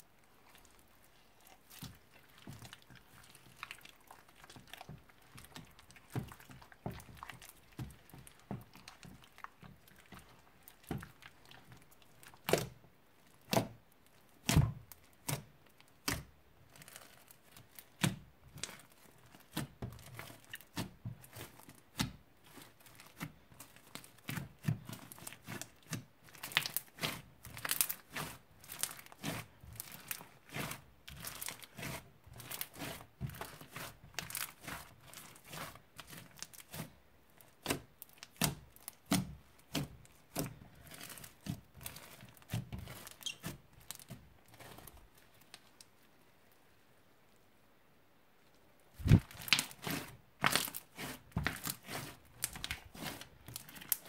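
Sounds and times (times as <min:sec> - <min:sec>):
slime popping and crackling: 0:00.4 - 0:45.7, 0:49.0 - 0:54.0.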